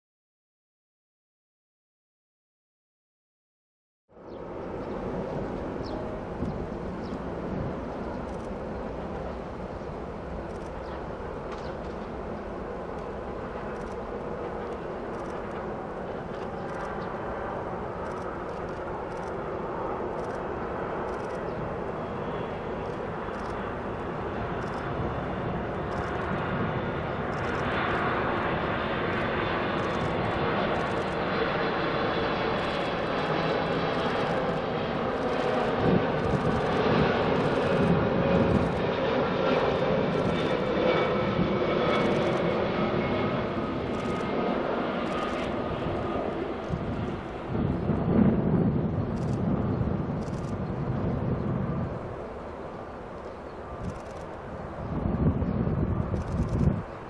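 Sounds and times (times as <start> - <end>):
jet engines rumbling and whining: 4.1 - 57.0.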